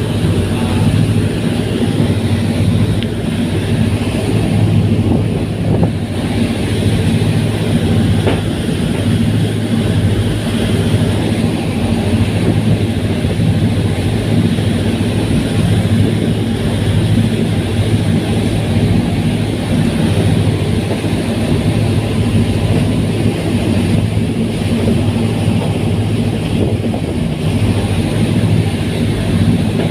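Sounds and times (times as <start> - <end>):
ferry engines droning: 0.0 - 29.9.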